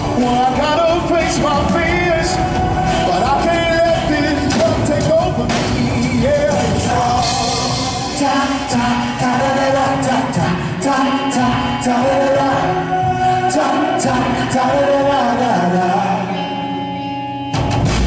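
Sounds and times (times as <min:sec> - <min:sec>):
person singing: 0:00.0 - 0:17.2
backing track music: 0:00.0 - 0:18.0.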